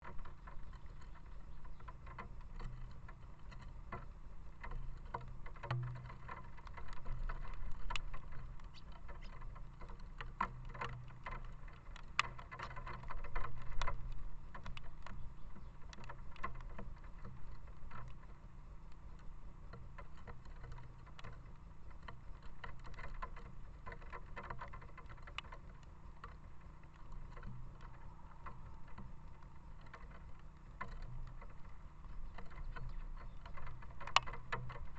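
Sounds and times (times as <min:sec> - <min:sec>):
low rain rumble: 0:00.0 - 0:34.9.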